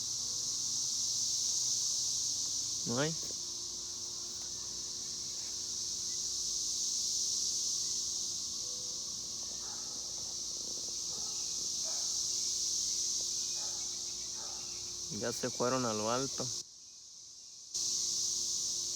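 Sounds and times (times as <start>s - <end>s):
cicadas buzzing: 0.0s - 18.9s.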